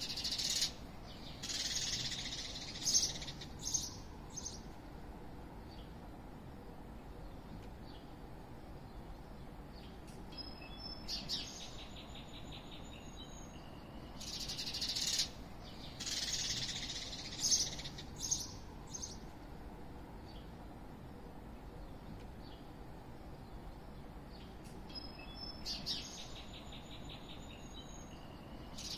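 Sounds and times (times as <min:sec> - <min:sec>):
low background hum: 0:00.0 - 0:28.9
small songbird singing: 0:00.0 - 0:28.9.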